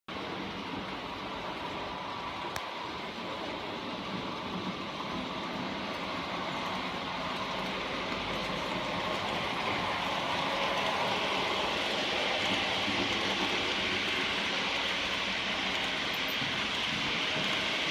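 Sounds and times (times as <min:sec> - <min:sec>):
freight train wheels rumbling on rail: 0:00.1 - 0:17.9.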